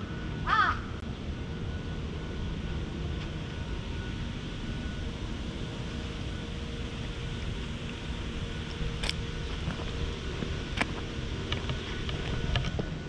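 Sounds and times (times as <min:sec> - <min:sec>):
faint steady hum: 0:00.0 - 0:13.0
wind buffeting microphone: 0:01.2 - 0:13.0.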